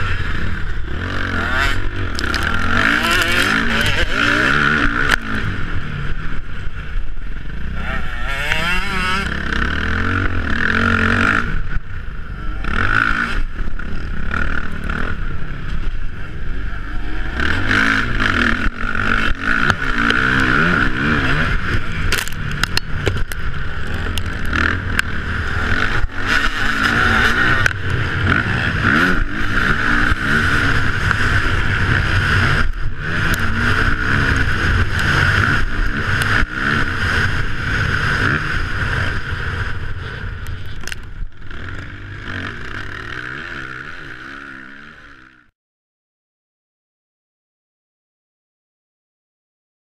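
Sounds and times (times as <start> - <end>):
motorbike engine revving: 0.0 - 6.5, 7.3 - 45.5.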